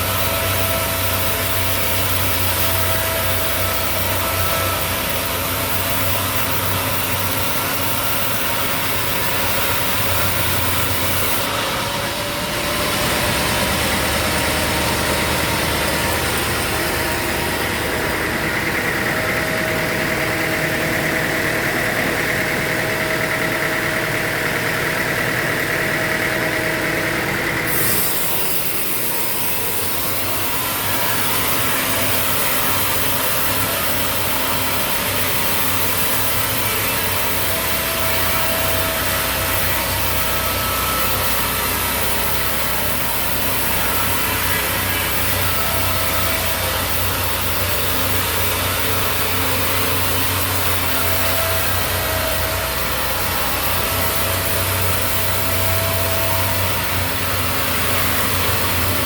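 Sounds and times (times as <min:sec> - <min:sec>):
high machine whine: 0:00.0 - 0:59.0
sawmill machinery humming: 0:00.0 - 0:59.0.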